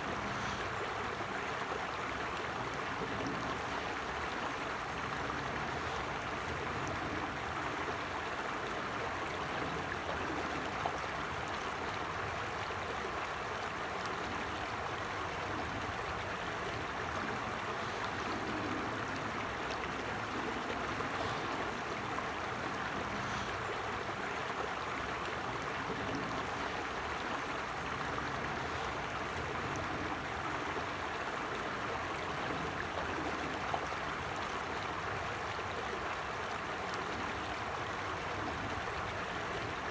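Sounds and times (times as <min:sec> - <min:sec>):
creek flowing: 0:00.0 - 0:39.9.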